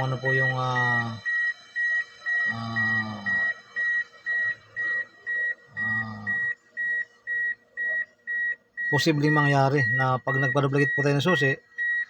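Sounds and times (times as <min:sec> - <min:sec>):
high-pitched electronic beeps: 0:00.0 - 0:12.0.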